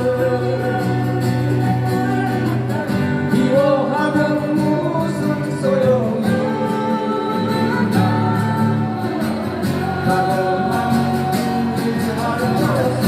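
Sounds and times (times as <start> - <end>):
person singing: 0.0 - 13.0
strummed acoustic guitars: 0.0 - 13.0.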